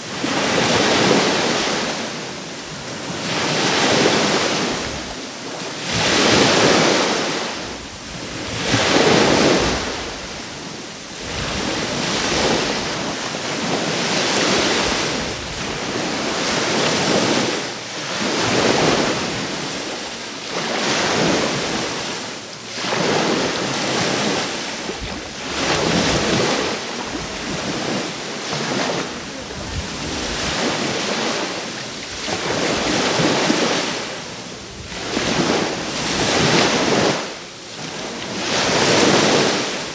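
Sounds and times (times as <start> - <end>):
small waves breaking on shore: 0.0 - 39.9.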